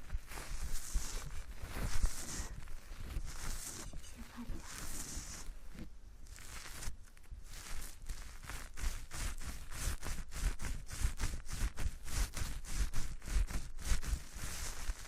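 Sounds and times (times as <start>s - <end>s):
scratching against microphone: 0.0s - 15.0s.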